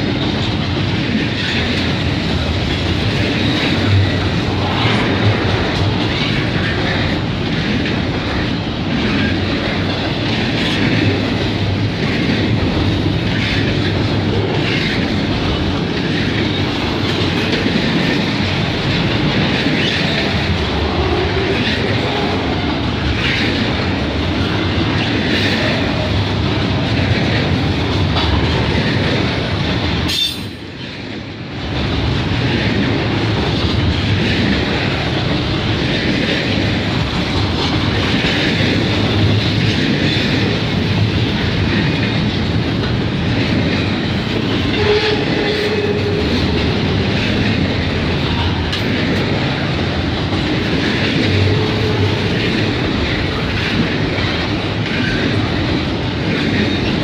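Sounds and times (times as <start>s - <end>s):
freight train rumbling: 0.0s - 57.0s.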